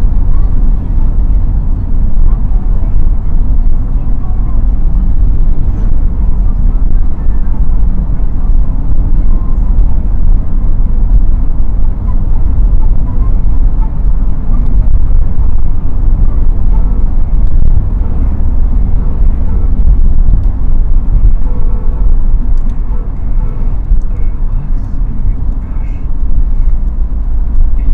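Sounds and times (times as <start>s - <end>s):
car engine rumble: 0.0s - 27.9s
tyre and road noise: 0.0s - 27.9s.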